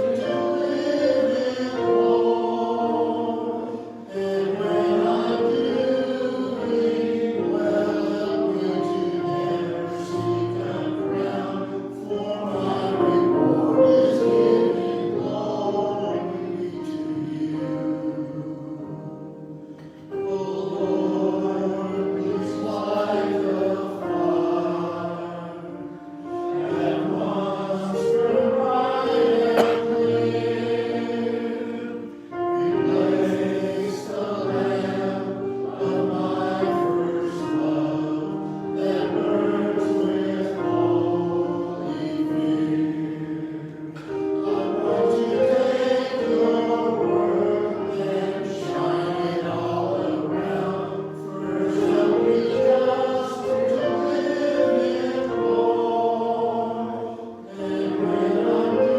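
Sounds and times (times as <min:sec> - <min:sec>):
choir singing: 0:00.0 - 0:58.9.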